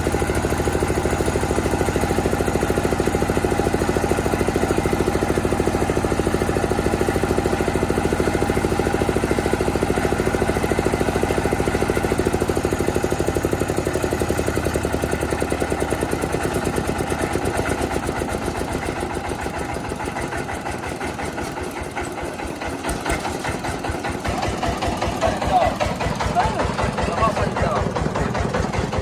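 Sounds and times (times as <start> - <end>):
milling machine engine pulsing: 0.0 - 29.0.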